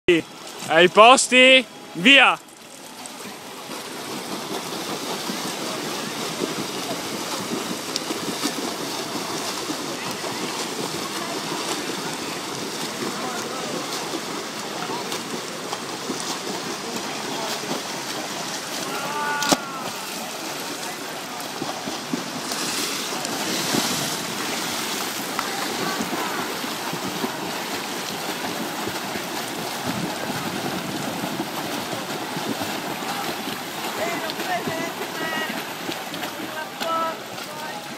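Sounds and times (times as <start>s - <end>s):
swimmers splashing in water: 0.1s - 37.9s.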